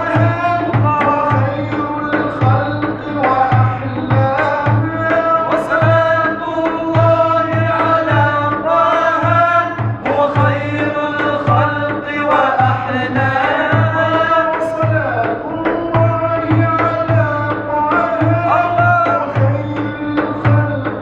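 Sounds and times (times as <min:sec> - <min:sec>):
frame drum beating: 0:00.0 - 0:21.0
men singing together: 0:00.0 - 0:21.0.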